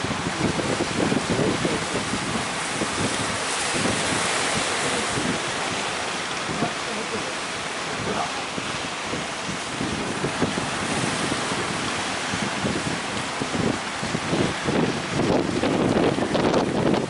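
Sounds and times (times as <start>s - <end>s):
sea waves rushing: 0.0s - 17.0s
wind buffeting microphone: 0.0s - 17.0s.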